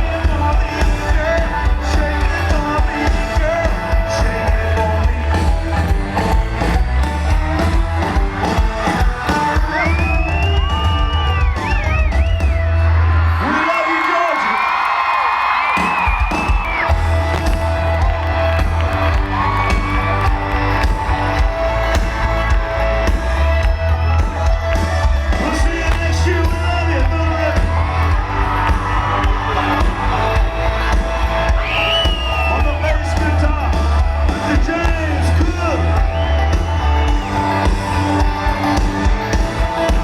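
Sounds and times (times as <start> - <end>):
audience whooping and cheering: 0.0 - 40.0
live country band playing: 0.0 - 40.0.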